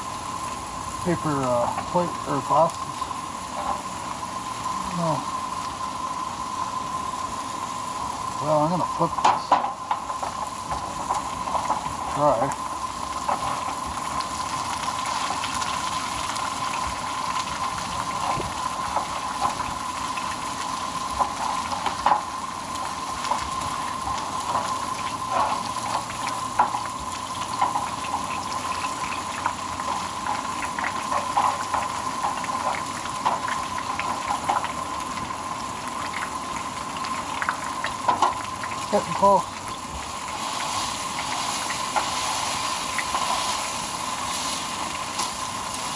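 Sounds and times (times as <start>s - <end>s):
food sizzling in oil: 0.0s - 45.9s.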